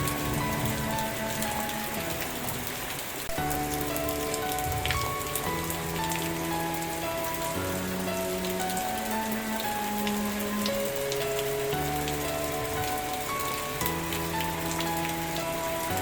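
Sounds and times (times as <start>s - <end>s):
drops ticking: 0.0s - 16.0s
soft background music: 0.0s - 16.0s
steady rain: 0.0s - 16.0s.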